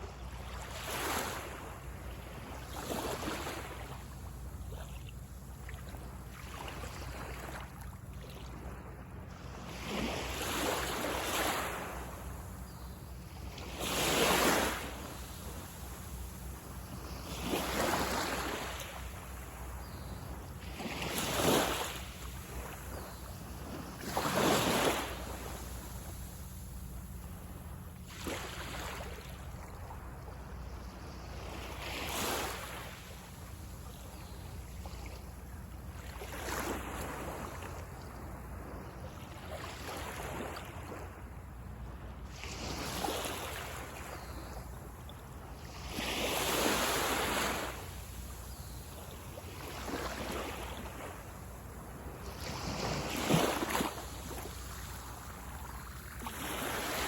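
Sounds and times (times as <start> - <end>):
waves breaking on a beach: 0.0 - 57.0.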